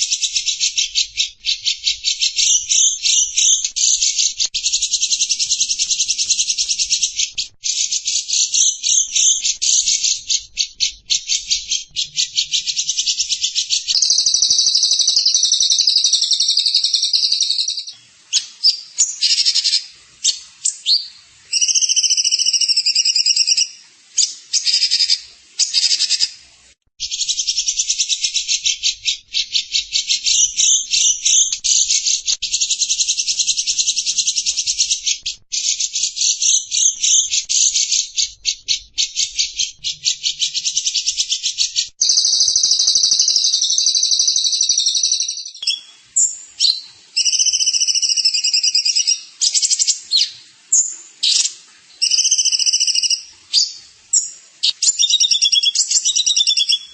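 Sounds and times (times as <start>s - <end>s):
songbird chattering trill: 0.0s - 19.9s, 27.1s - 56.9s.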